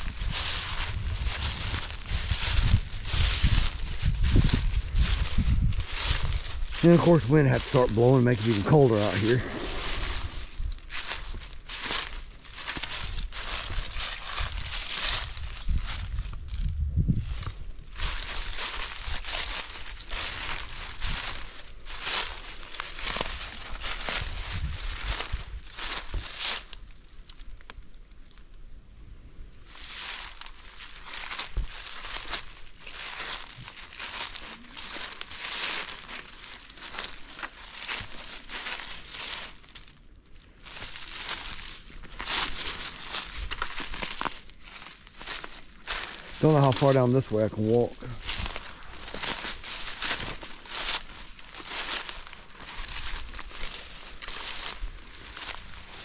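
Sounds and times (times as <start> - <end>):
footsteps crunching dry leaves: 0.0 - 56.0.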